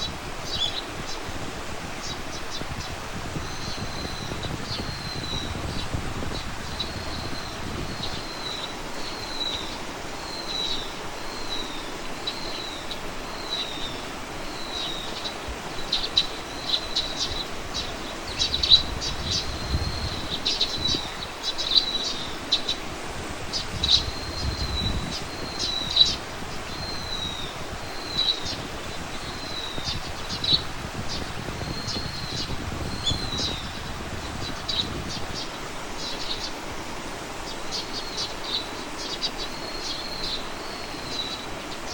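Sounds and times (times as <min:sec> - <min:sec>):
outdoor background noise: 0:00.0 - 0:41.9.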